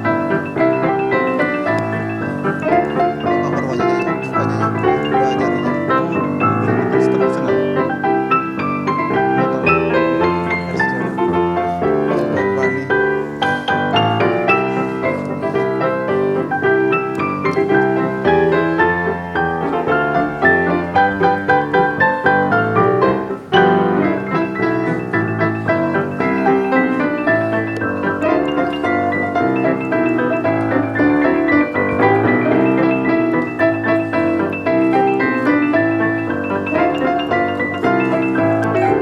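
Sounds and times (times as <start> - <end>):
piano playing christmas music: 0.0 - 39.0.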